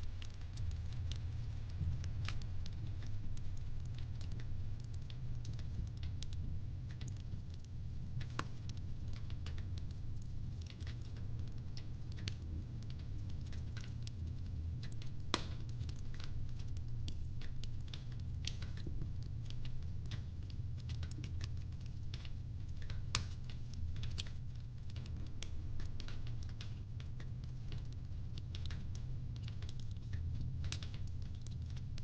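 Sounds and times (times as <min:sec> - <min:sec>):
fireplace crackling: 0:00.0 - 0:32.0.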